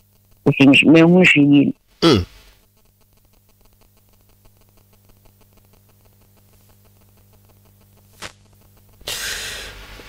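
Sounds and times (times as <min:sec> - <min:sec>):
light static: 0:00.0 - 0:10.0
low electrical hum: 0:00.0 - 0:10.0.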